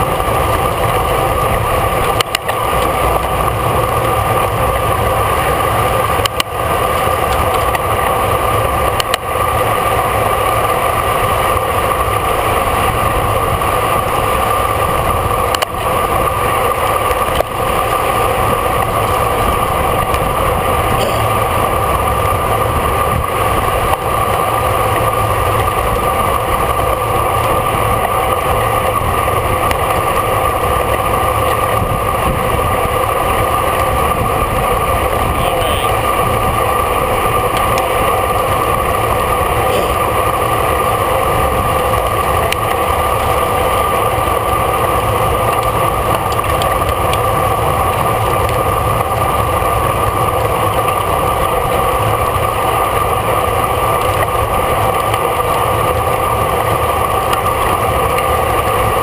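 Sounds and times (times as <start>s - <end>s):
constant hum: 0.0s - 59.0s
wind and road noise: 0.0s - 59.0s.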